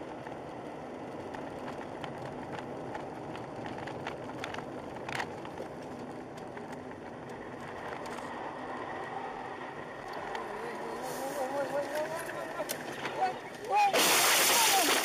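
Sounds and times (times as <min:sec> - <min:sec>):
car tyre and engine noise: 0:00.0 - 0:15.0.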